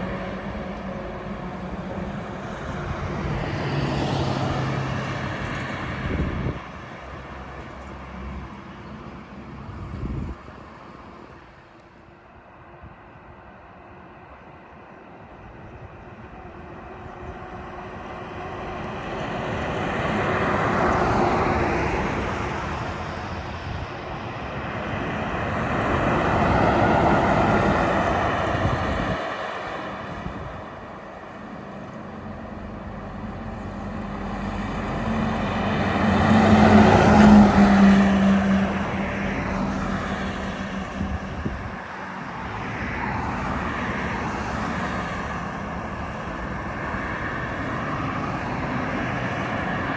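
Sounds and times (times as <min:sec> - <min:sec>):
heavy trucks passing on highway: 0:00.0 - 0:49.9.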